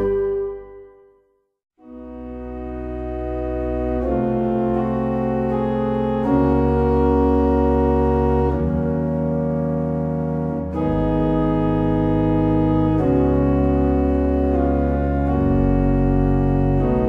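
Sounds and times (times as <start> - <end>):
organ playing held chords: 0.0 - 1.1, 1.8 - 17.0.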